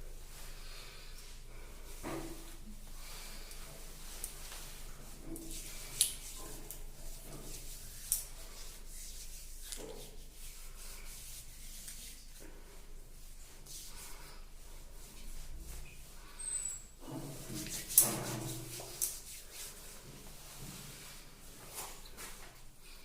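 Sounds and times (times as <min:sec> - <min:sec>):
hand rubbing skincare into skin: 0:02.4 - 0:22.5.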